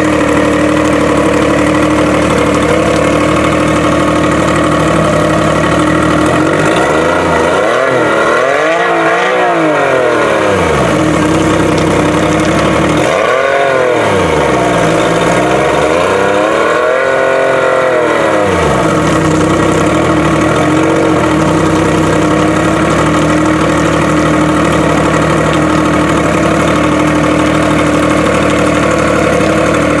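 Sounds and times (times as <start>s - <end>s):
outboard motor revving and idling: 0.0s - 30.0s.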